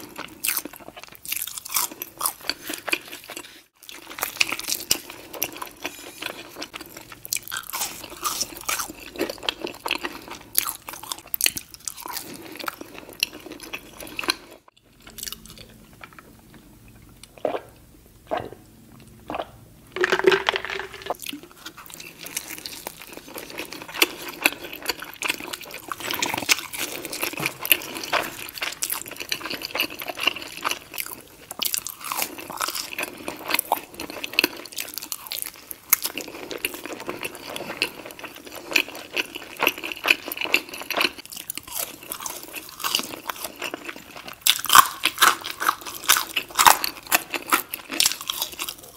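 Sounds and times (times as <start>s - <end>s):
wet chewing and crunching: 0.0s - 48.9s.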